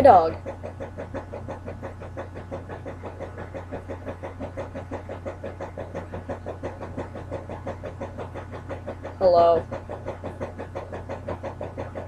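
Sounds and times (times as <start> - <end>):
small motor humming: 0.0 - 12.0.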